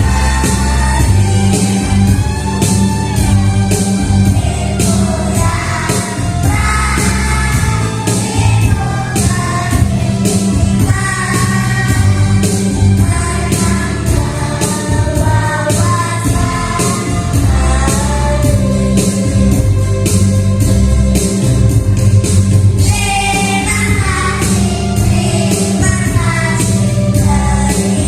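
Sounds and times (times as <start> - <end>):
children's choir singing: 0.0 - 19.5, 22.8 - 28.0
backing track with heavy bass: 0.0 - 28.0.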